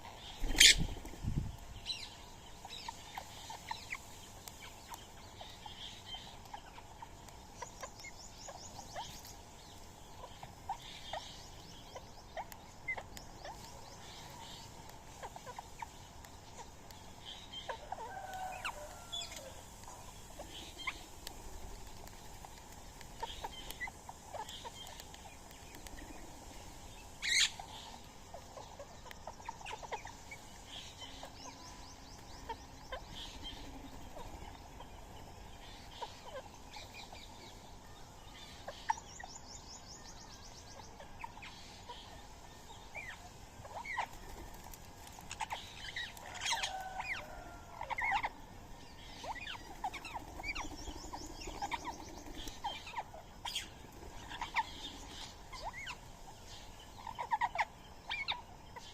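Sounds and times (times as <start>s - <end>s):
bird calls and chirps: 0.0s - 58.9s.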